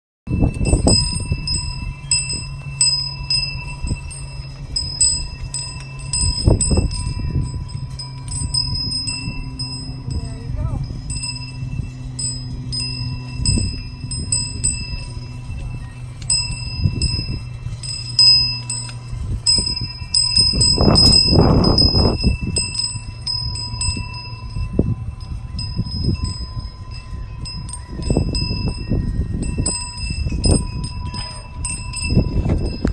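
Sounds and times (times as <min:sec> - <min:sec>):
low rumbling bursts: 0:00.3 - 0:32.9
metal wind chimes ringing: 0:00.3 - 0:32.9.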